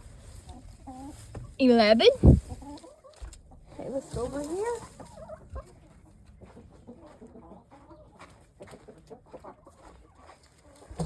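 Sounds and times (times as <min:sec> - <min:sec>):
hens clucking softly: 0:00.2 - 0:01.6, 0:02.3 - 0:11.0.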